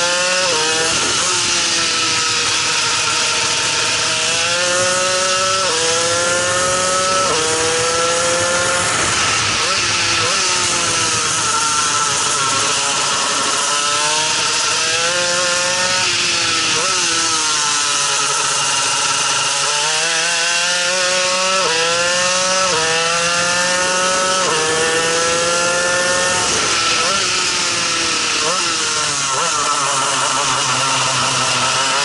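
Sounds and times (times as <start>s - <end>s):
kart engine accelerating: 0.0s - 32.0s.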